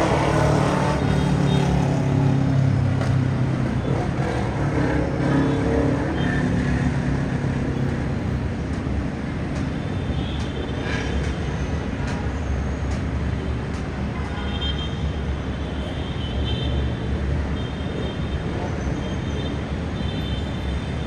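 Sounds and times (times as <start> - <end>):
distant heavy city traffic: 0.0 - 21.0.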